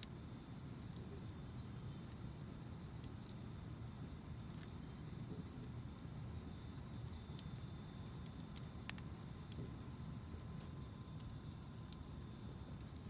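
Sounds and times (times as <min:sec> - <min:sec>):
campfire burning with crackles: 0:00.0 - 0:13.0.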